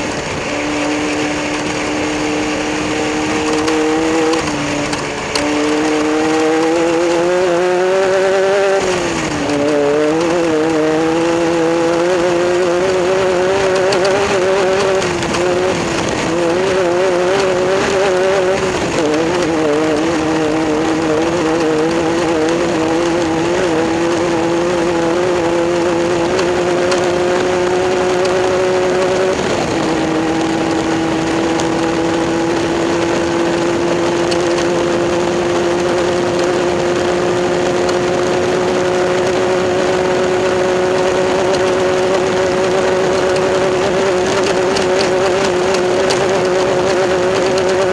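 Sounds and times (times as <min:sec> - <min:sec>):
race car engine running hard: 0:00.0 - 0:47.9.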